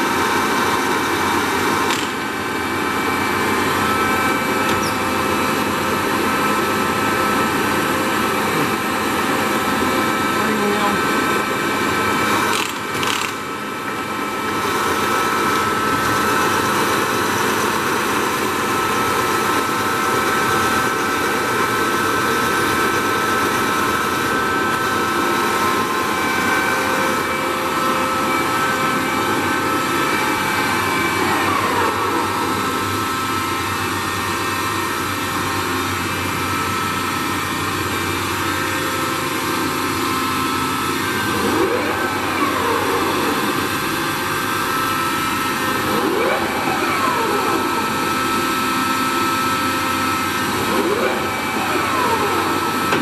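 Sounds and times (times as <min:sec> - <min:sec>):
lathe mechanical whine: 0:00.0 - 0:53.0.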